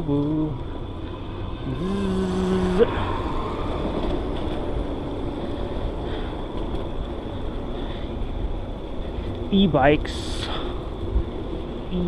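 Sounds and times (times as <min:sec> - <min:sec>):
bicycle tyres rolling: 0:00.1 - 0:12.0.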